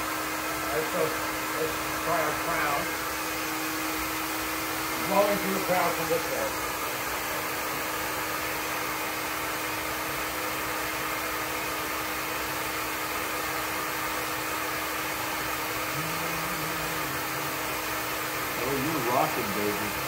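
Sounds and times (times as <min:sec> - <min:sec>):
hot-air blower fan rush: 0:00.0 - 0:20.0.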